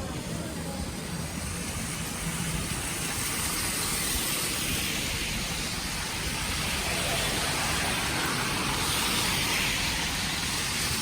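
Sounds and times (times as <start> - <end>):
vehicle rumble with tyre hiss: 0.0 - 11.0.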